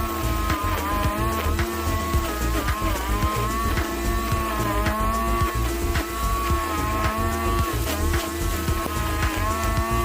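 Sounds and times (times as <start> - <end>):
brush cutter engine whining: 0.0 - 10.0
cutting head ticking on stems: 0.1 - 10.0.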